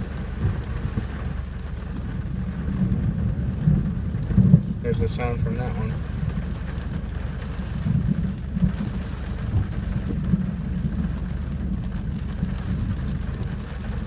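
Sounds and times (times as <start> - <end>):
rain falling: 0.0 - 14.0
thunder rumbling: 0.0 - 14.0.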